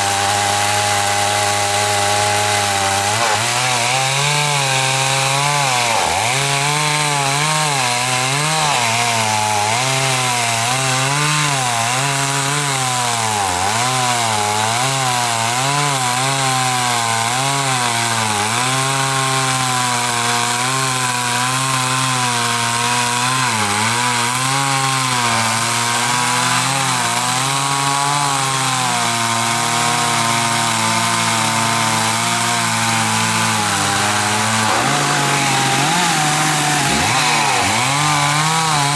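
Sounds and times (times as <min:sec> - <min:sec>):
chainsaw cutting into tree trunk: 0:00.0 - 0:38.9.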